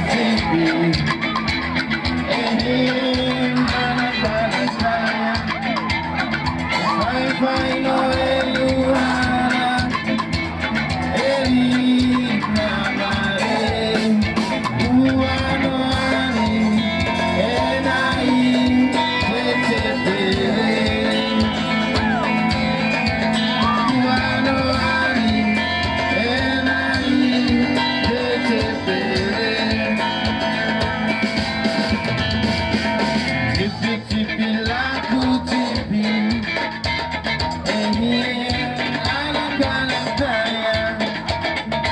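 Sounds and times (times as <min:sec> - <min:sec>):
person singing: 0:00.0 - 0:31.4, 0:33.5 - 0:41.9
guitar: 0:00.0 - 0:41.9
live band playing: 0:00.0 - 0:41.9.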